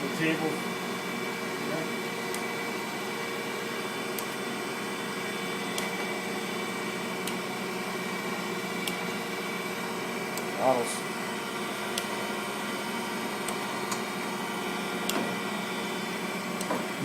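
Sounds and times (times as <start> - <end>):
grinder machine humming: 0.0 - 17.0.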